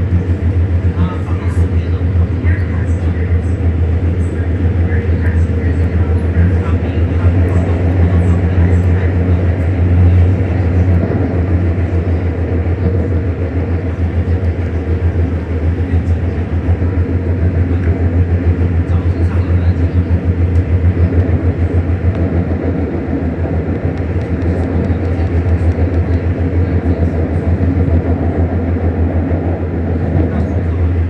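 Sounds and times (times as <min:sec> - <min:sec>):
metro train rumbling: 0:00.0 - 0:31.0.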